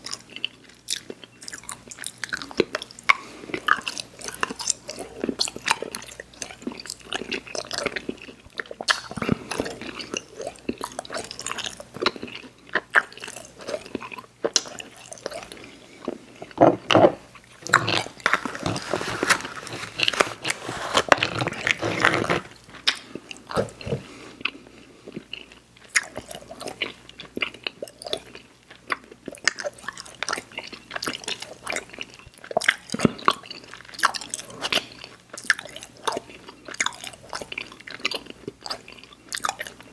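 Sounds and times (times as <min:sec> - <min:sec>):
chewing with mouth clicks: 0:00.0 - 0:18.8, 0:22.6 - 0:39.9.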